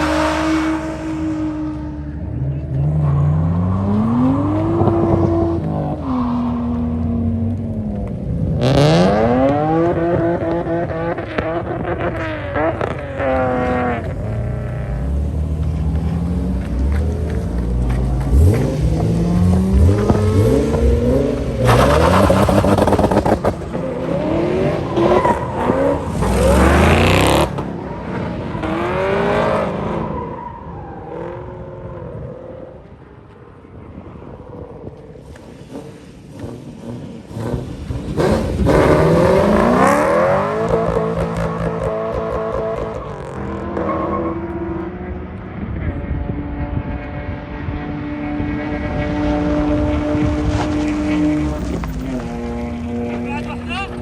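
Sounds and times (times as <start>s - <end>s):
sports car engines revving: 0.0s - 54.0s.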